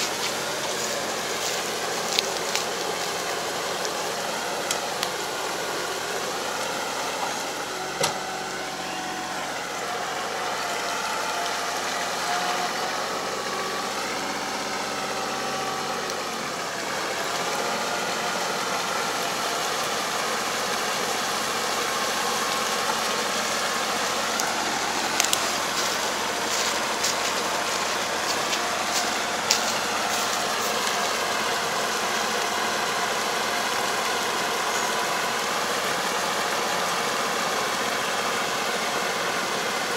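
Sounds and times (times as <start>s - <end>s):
distant tractor engine: 0.0s - 39.9s.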